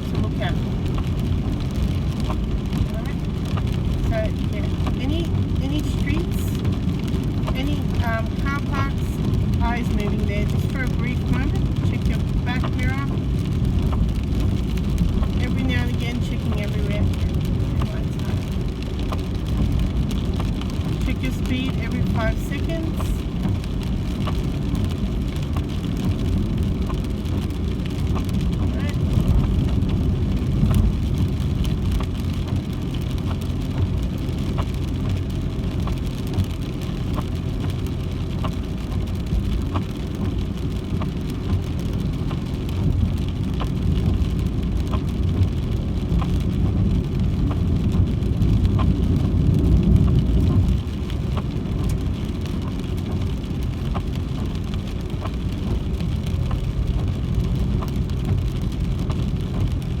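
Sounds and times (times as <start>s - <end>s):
car engine rumble: 0.0s - 60.0s
wet-road tyre noise: 0.0s - 60.0s.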